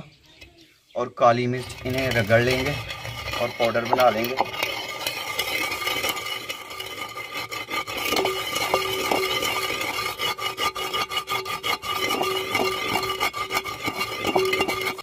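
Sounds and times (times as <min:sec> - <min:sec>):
pestle grinding seeds in clay bowl: 0:01.4 - 0:15.0.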